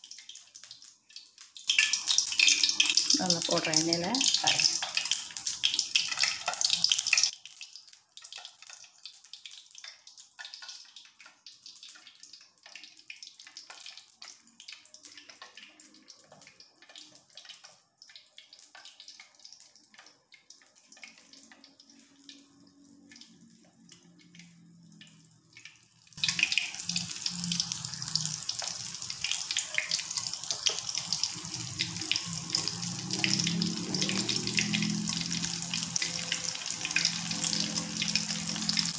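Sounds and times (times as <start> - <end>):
hot oil sizzling: 0.0 - 38.9.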